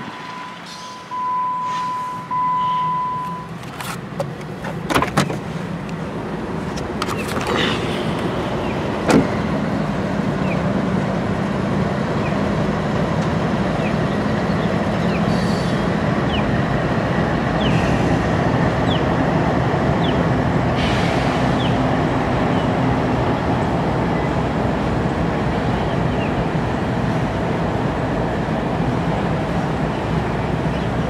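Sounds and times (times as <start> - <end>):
diesel locomotives running: 0.0 - 31.0.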